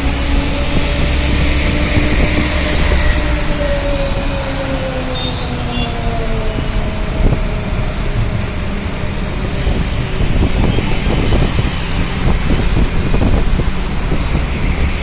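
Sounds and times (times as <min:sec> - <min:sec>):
road traffic noise: 0:00.0 - 0:15.0
vehicle engine: 0:00.0 - 0:15.0
wind buffeting microphone: 0:00.0 - 0:15.0.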